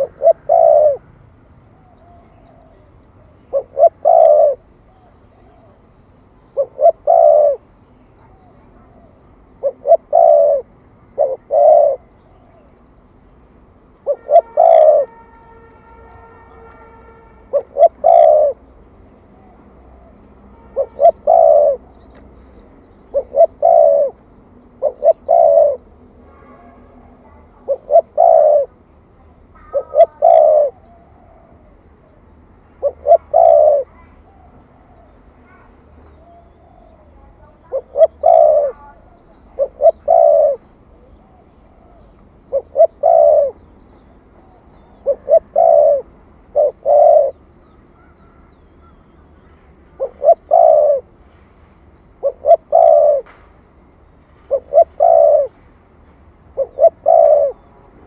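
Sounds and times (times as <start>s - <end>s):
dove cooing: 0.0s - 1.1s, 1.7s - 12.8s, 13.9s - 15.2s, 17.4s - 22.2s, 23.1s - 25.9s, 27.2s - 32.2s, 32.8s - 51.2s, 52.1s - 53.3s, 54.5s - 55.6s, 56.5s - 57.7s.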